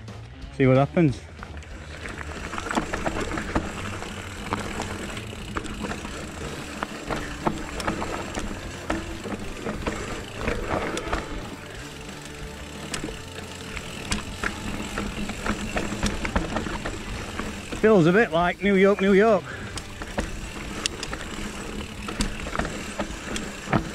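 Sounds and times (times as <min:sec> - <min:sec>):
tyres rumbling over ground: 0:00.0 - 0:23.9
bike knocking and rattling: 0:01.3 - 0:23.9.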